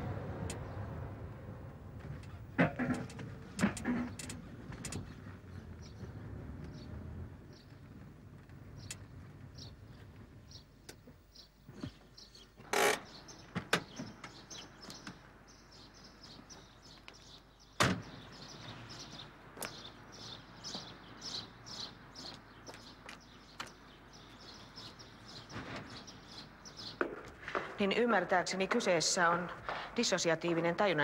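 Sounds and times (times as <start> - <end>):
small birds chirping: 3.8 - 30.6.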